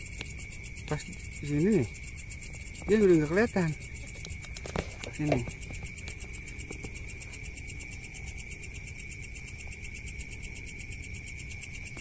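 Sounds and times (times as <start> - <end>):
crickets chirping: 0.0 - 12.0
low background rumble: 0.0 - 12.0.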